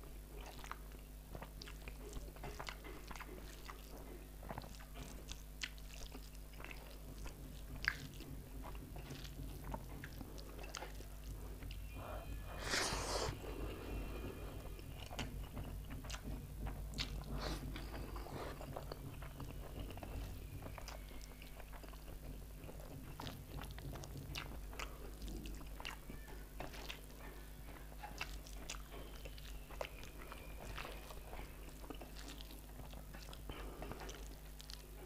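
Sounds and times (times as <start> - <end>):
wet chewing and lip smacks: 0.3 - 11.9, 14.7 - 35.0.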